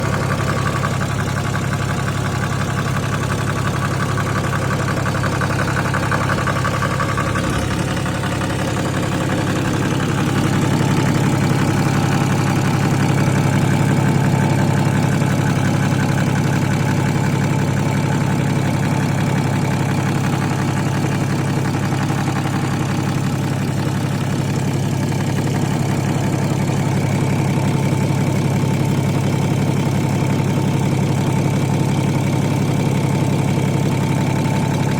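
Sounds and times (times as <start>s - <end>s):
diesel engine idling: 0.0s - 34.9s
engine knocking: 0.0s - 34.9s.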